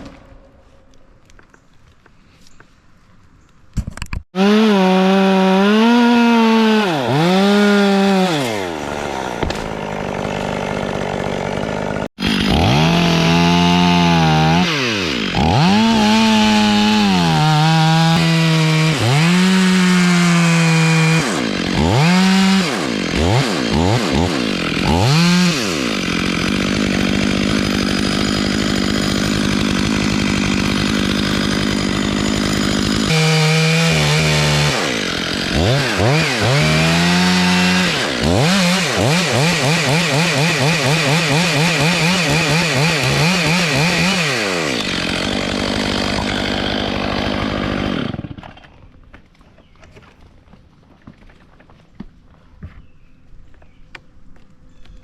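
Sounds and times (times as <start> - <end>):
chainsaw cutting wood: 4.3 - 48.9.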